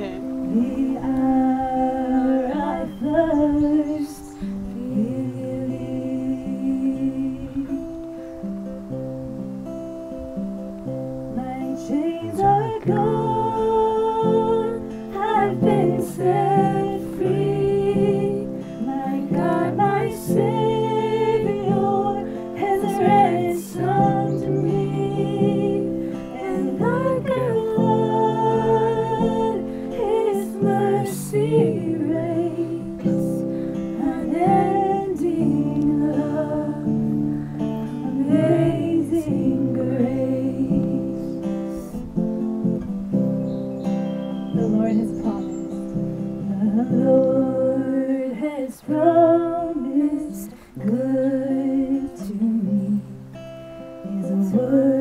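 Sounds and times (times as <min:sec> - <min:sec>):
person singing: 0:00.0 - 0:08.6, 0:11.3 - 0:42.8, 0:44.5 - 0:55.0
acoustic guitar strummed: 0:00.0 - 0:55.0.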